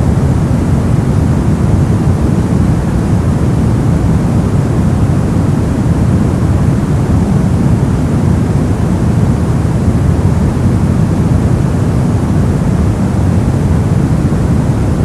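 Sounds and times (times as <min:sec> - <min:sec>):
low rumbling brown noise: 0:00.0 - 0:15.0.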